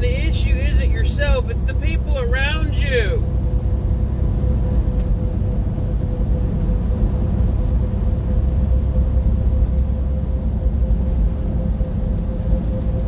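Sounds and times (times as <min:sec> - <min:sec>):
faint steady whine: 0:00.0 - 0:13.0
truck engine and road rumble: 0:00.0 - 0:13.0.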